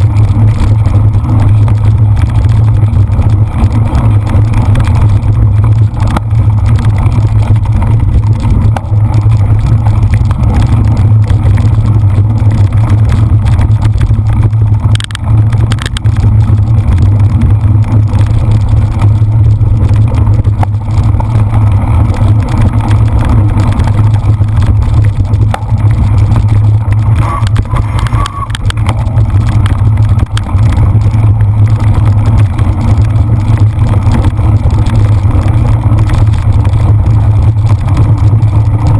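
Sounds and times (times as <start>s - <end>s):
rolling noise: 0.0s - 38.9s.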